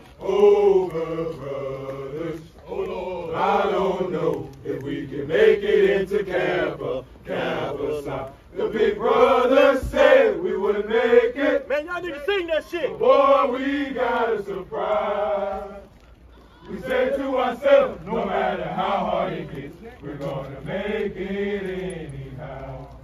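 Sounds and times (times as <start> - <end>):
men chanting in unison: 0.2 - 15.9, 16.7 - 23.0.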